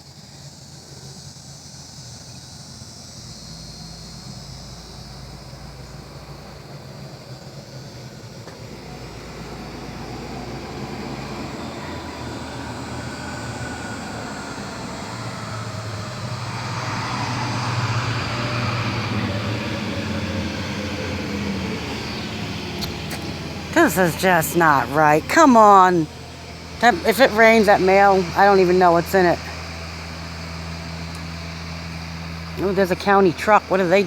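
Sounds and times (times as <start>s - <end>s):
passing engine hum: 0.0s - 34.0s.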